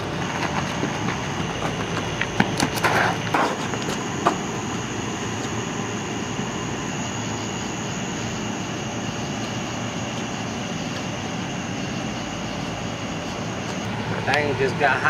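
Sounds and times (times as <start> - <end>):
faint high whine: 0.0 - 15.0
steady hum and hiss: 0.0 - 15.0.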